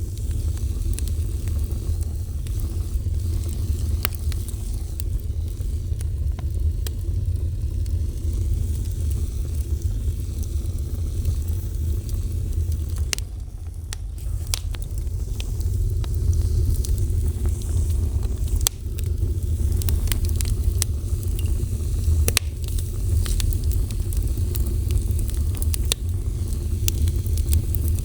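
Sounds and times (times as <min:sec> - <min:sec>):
fire roaring and crackling: 0:00.0 - 0:28.0.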